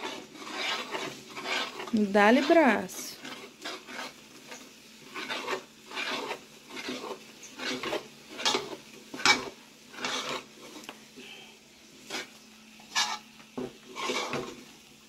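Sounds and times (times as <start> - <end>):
dough stirred scraping a pan: 0.0 - 14.9.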